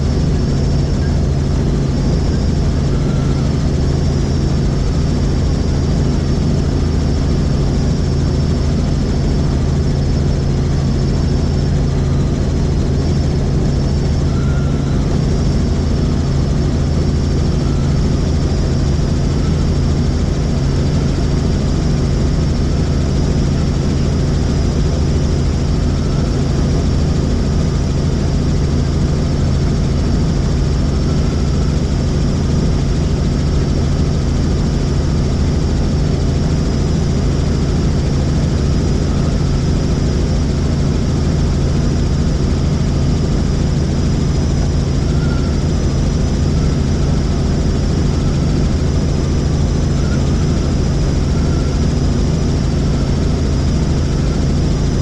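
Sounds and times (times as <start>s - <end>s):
faint high whine: 0.0s - 55.0s
helicopter engine and rotor drone: 0.0s - 55.0s.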